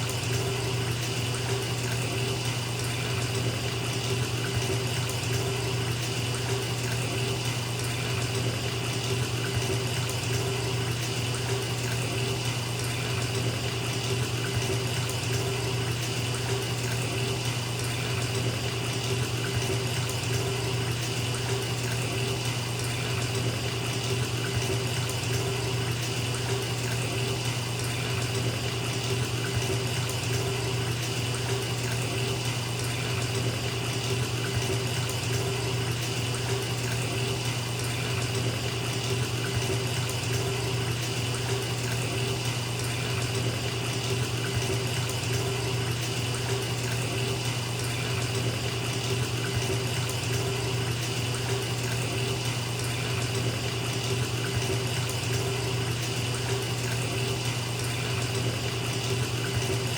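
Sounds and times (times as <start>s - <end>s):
water pouring into bathtub: 0.0s - 59.9s.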